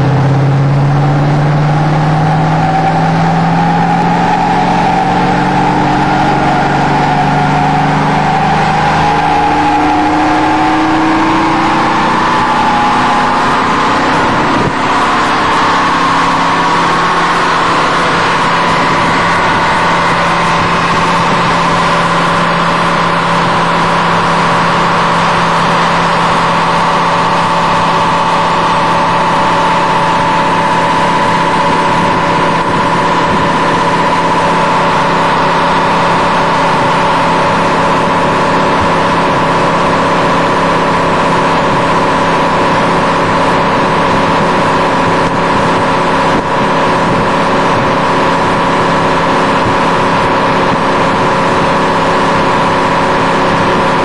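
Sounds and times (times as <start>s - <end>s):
car engine droning steadily: 0.0s - 54.0s.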